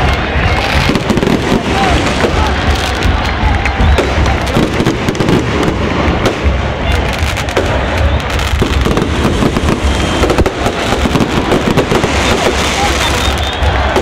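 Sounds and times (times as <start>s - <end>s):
fireworks cracking and popping: 0.0s - 14.0s.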